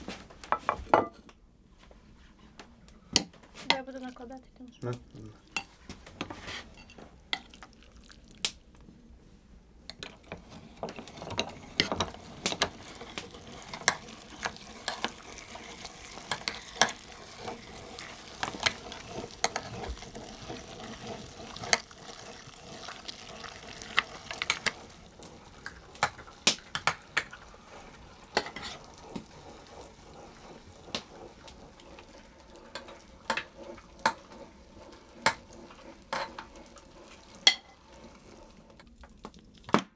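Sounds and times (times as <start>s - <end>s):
faint frying sizzle: 0.0s - 39.9s
utensil scraping in cooking pan: 2.0s - 39.8s.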